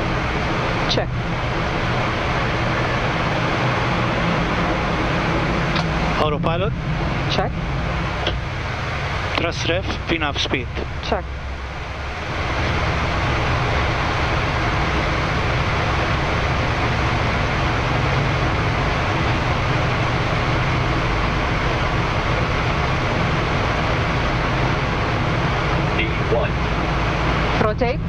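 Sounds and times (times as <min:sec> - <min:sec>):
deep rumble of runway and gear: 0:00.0 - 0:28.0
jet engine and airflow rush: 0:00.0 - 0:28.0.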